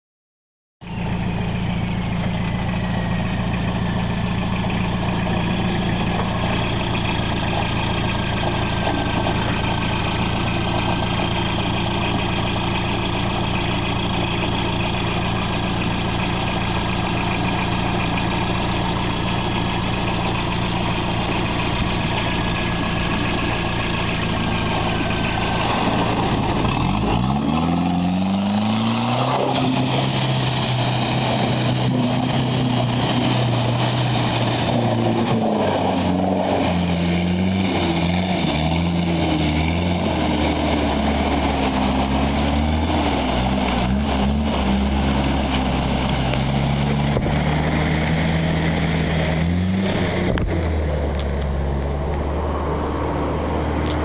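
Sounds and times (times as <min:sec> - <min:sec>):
truck engine running: 0:00.8 - 0:54.0.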